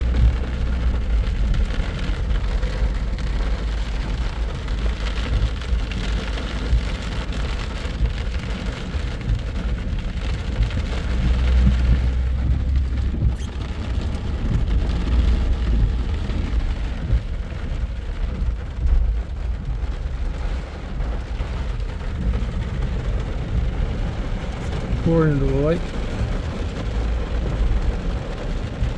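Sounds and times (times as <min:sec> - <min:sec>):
heavy rain on a car: 0:00.0 - 0:28.9
low rumble: 0:00.0 - 0:28.9
tyre noise on wet road: 0:00.0 - 0:28.9.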